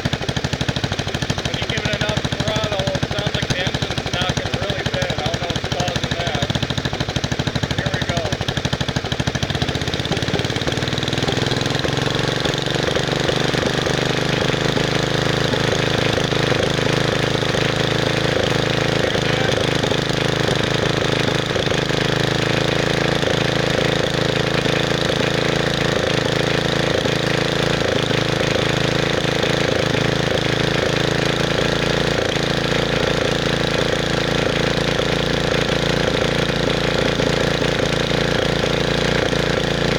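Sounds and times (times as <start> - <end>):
engine knocking: 0.0 - 39.9
garden tractor engine running: 0.0 - 39.9.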